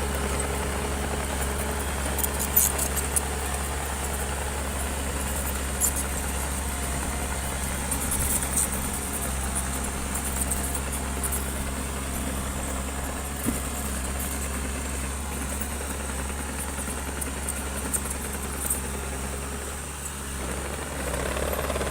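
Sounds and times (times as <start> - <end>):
construction machine engine running: 0.0 - 21.9.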